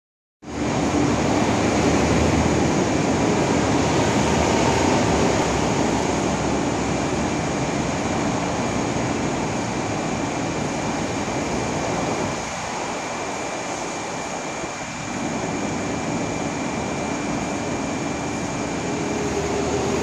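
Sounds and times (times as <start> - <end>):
electric train rumbling: 0.5 - 20.0.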